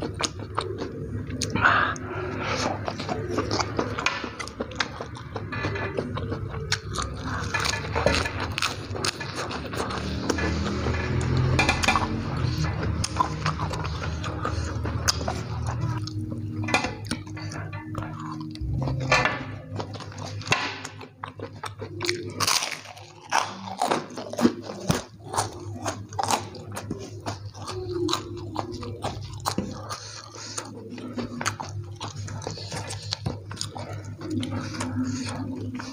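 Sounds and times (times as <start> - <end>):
chewing and crunching food: 0.0 - 35.9.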